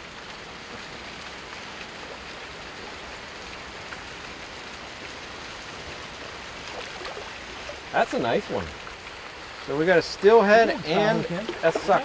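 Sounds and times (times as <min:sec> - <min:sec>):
shallow stream running: 0:00.0 - 0:12.0.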